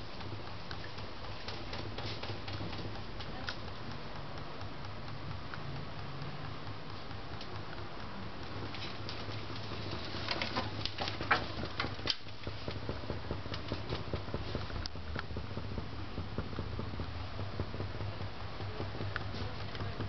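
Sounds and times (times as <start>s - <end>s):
fast dense ticking: 0.0s - 20.0s
generator low hum: 0.0s - 20.0s
sharp clicks: 0.0s - 20.0s.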